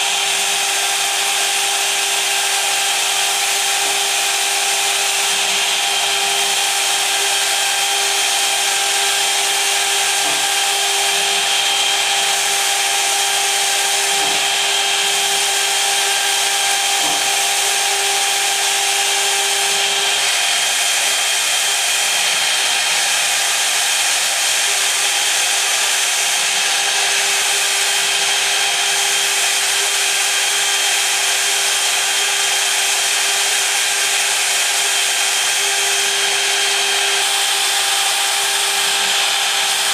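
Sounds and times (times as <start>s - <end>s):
cutter hissing through plastic: 0.0s - 39.9s
engraving spindle whine: 0.0s - 39.9s.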